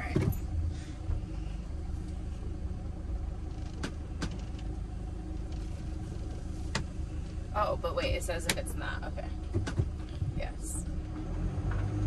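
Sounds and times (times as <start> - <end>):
engine running while driving: 0.0 - 12.0.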